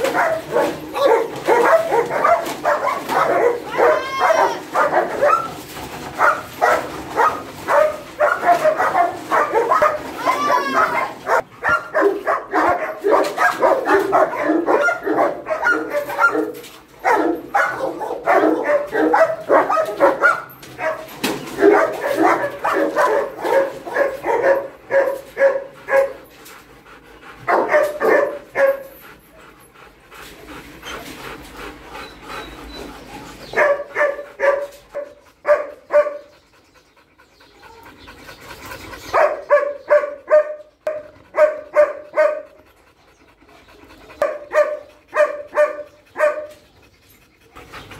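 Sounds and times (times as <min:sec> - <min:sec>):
dogs barking: 0:00.0 - 0:29.7, 0:31.6 - 0:36.5, 0:37.4 - 0:47.9.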